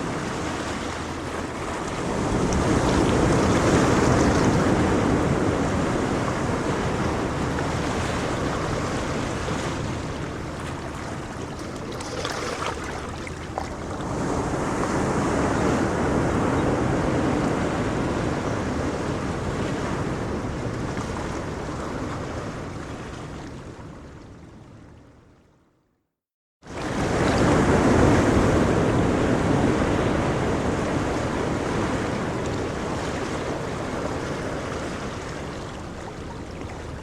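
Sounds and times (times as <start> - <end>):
ocean waves breaking on shore: 0.0 - 24.6, 26.7 - 37.0.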